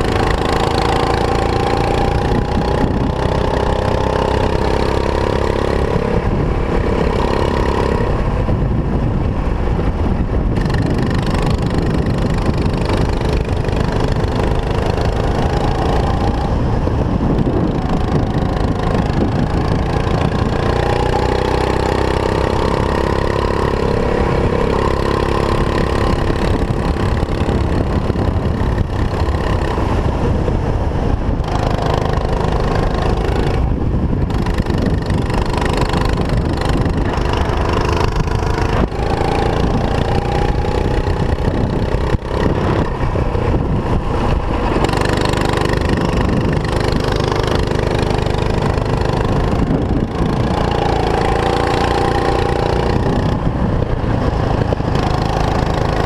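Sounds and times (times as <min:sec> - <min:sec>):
kart engine revving: 0:00.0 - 0:56.0
wind rumble on microphone: 0:00.0 - 0:56.0.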